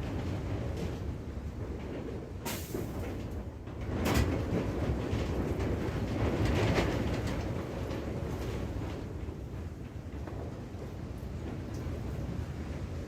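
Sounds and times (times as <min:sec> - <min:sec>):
rain: 0:00.0 - 0:13.0
wind buffeting microphone: 0:00.0 - 0:13.0.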